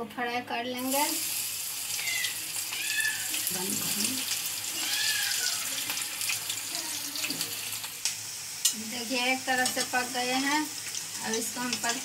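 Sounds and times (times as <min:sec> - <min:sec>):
pakoras sizzling in hot oil: 0:00.7 - 0:12.0.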